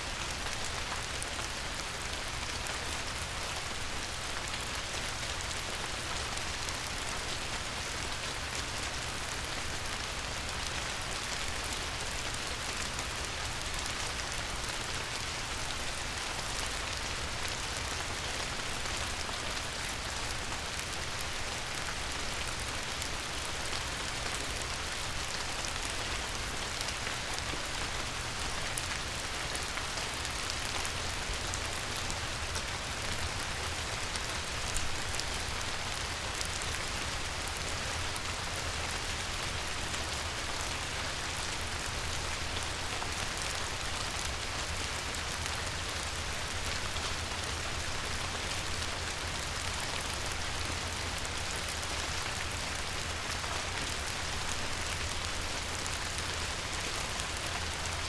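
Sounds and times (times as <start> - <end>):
light rain on river: 0.0 - 58.0.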